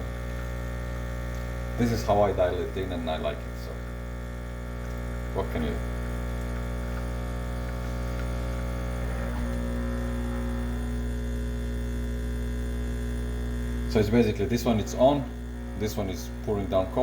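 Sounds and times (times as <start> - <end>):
espresso machine pump humming: 0.0 - 17.0.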